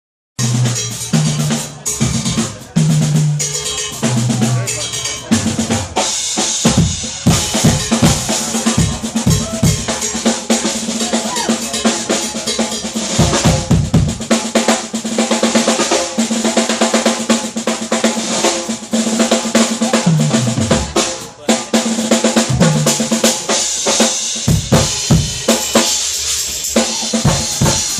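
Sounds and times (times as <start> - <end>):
drum solo: 0.4 - 27.9.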